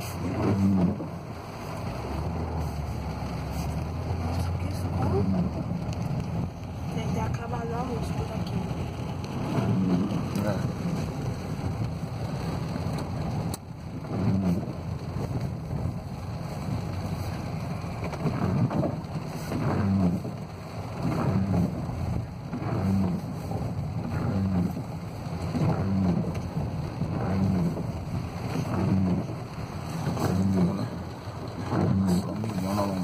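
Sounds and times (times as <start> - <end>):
car engine and tyres on wet road: 0.0 - 33.0
rain on car body: 0.0 - 33.0.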